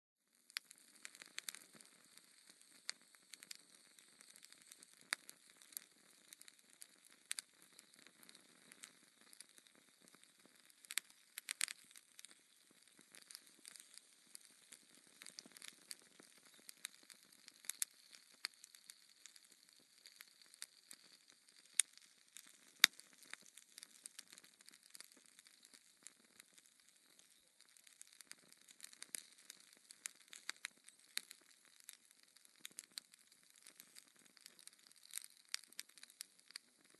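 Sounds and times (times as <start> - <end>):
soft fire hiss: 0.3 - 36.9
wood fire pops and snaps: 0.4 - 36.9.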